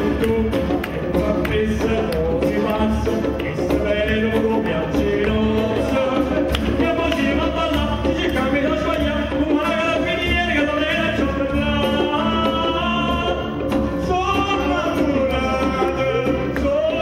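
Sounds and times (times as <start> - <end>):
instrumental accompaniment: 0.0 - 17.0
man singing: 0.0 - 17.0.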